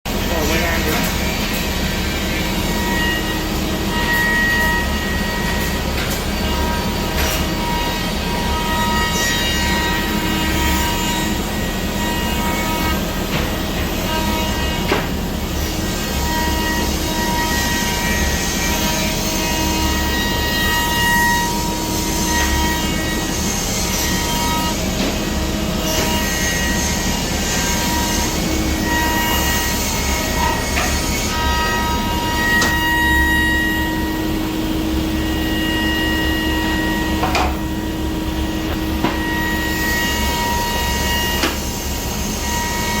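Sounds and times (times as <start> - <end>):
machine mechanical hum: 0.1 - 43.0
machine whining tones: 0.1 - 43.0.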